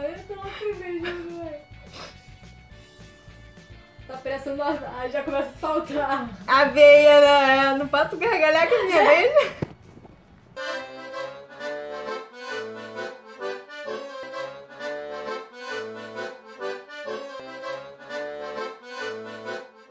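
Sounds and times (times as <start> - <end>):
accordion playing a tune: 0.0 - 7.0, 10.6 - 19.9.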